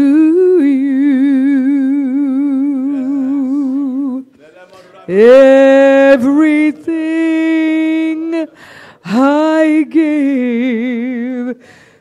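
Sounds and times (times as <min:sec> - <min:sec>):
woman singing: 0:00.0 - 0:04.3, 0:05.1 - 0:11.6.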